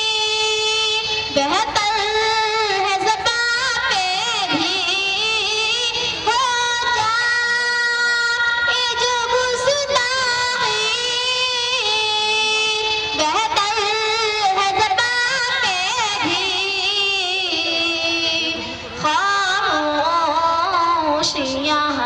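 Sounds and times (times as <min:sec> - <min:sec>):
girl singing into a microphone: 0:00.0 - 0:22.0.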